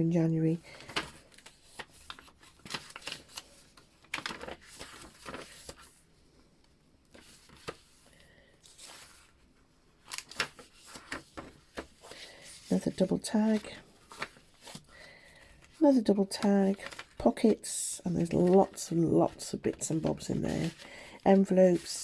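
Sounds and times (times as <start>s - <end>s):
paper rustling and crinkling: 0.6s - 6.1s, 7.0s - 22.0s.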